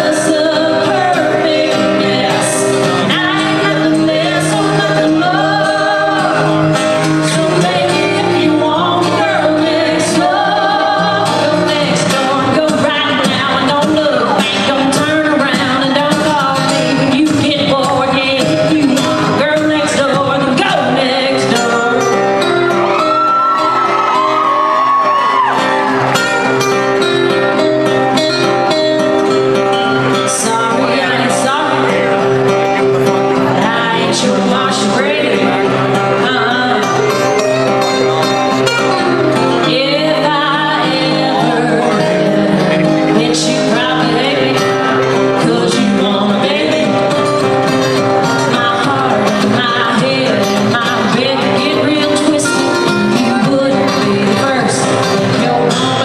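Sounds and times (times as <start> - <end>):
woman singing: 0.0 - 23.7, 30.1 - 32.4, 33.4 - 37.5, 38.6 - 56.0
strummed acoustic guitars: 0.0 - 56.0.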